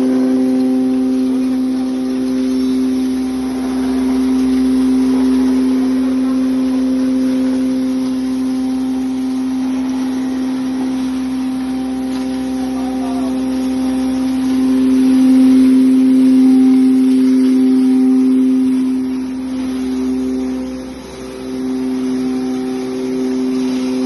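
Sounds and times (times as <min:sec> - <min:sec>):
spice grinder motor hum: 0:00.0 - 0:24.0.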